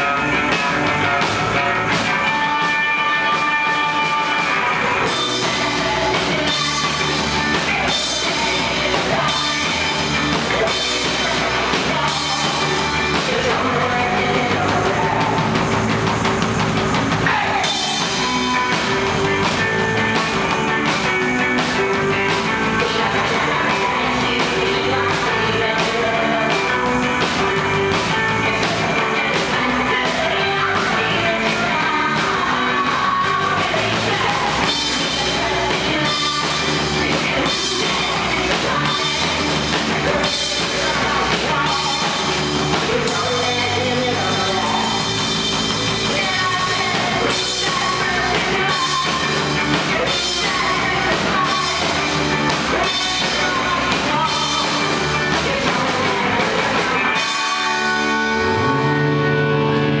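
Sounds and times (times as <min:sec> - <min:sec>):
drum kit: 0:00.0 - 1:00.0
person singing: 0:00.0 - 1:00.0
rock band playing: 0:00.0 - 1:00.0.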